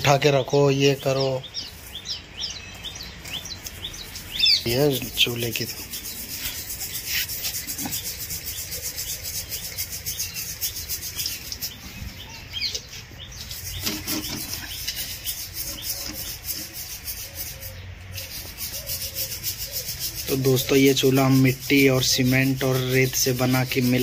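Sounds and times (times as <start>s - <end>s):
plaster rubbing and scraping: 3.4s - 12.2s, 13.4s - 24.0s.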